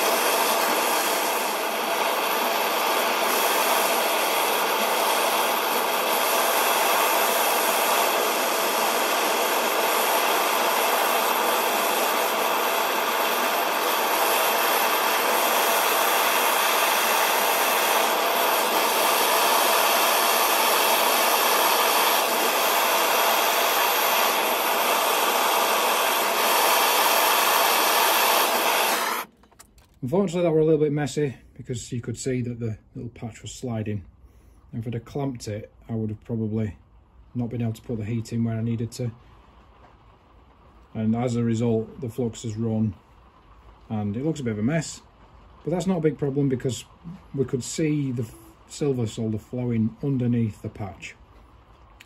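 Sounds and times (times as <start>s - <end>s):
propane torch hissing: 0.0s - 29.3s, 33.3s - 52.0s.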